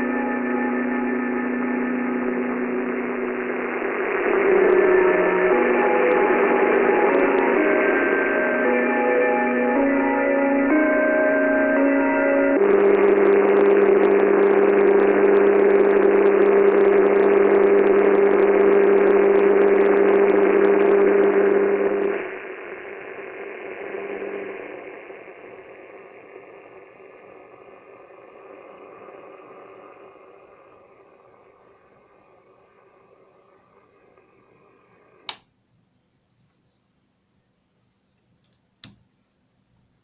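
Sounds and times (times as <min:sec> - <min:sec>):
low radio hum: 0:00.0 - 0:35.4
radio static hiss: 0:00.0 - 0:35.4.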